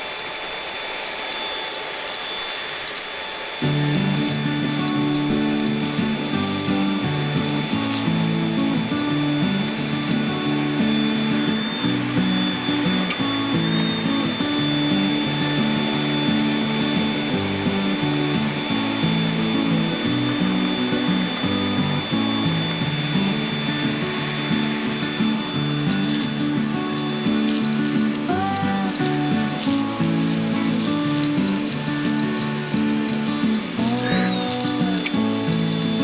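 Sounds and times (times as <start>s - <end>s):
vacuum cleaner motor: 0.0s - 36.0s.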